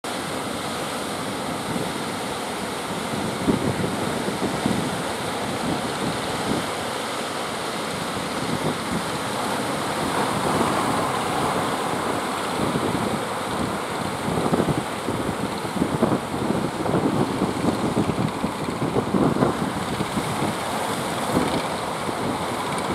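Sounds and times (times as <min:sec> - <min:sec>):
surf breaking and washing: 0:00.1 - 0:22.9
wind buffeting microphone: 0:01.4 - 0:07.0, 0:07.9 - 0:22.9.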